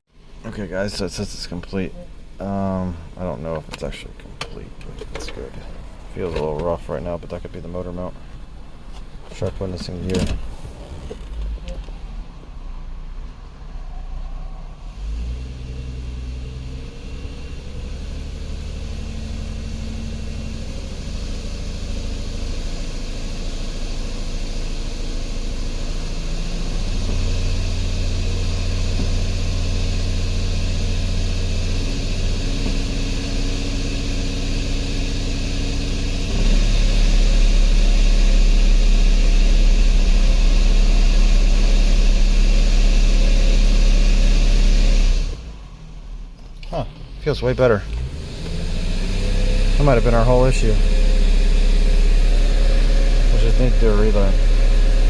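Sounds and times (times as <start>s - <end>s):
road noise: 0.1s - 55.0s
car engine shifting gears: 2.1s - 13.4s, 14.8s - 55.0s.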